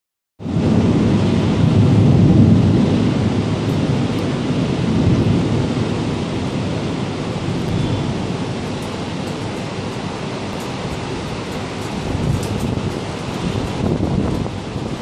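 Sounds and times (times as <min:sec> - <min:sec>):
rain hissing: 0:00.4 - 0:15.0
thunder rumbling: 0:00.4 - 0:15.0.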